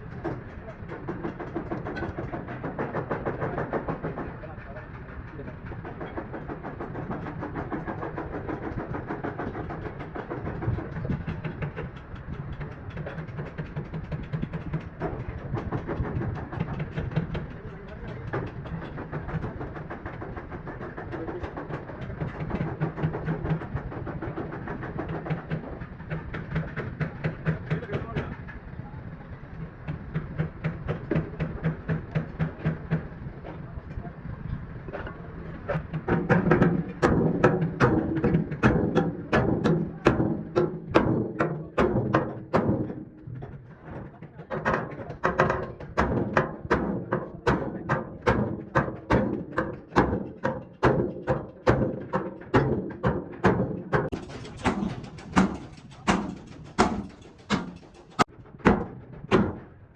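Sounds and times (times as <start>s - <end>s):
steady low hum: 0.0s - 59.9s
hammer tapping on metal tank: 5.8s - 28.3s, 29.9s - 33.0s, 35.7s - 59.7s.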